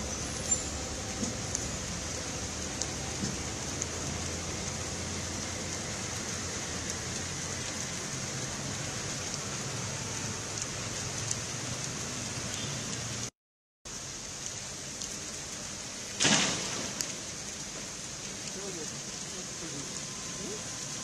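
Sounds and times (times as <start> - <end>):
heavy rain on road: 0.0 - 13.3, 13.9 - 21.0
vehicles passing on wet road: 0.0 - 13.3, 13.9 - 21.0.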